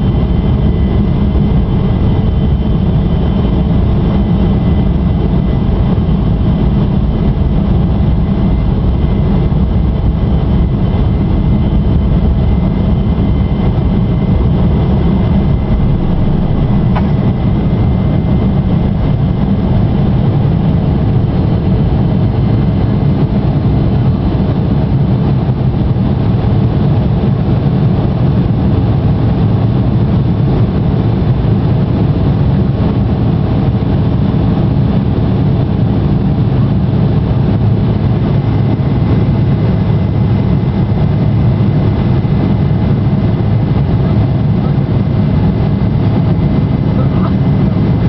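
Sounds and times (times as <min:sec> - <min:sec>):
faint high engine whine: 0:00.0 - 0:48.0
jet engine rumble in cabin: 0:00.0 - 0:48.0.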